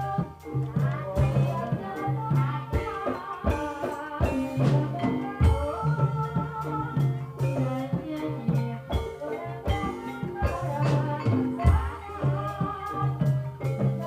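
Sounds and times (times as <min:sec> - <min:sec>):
drum strokes: 0:00.0 - 0:14.0
gamelan music: 0:00.0 - 0:14.0.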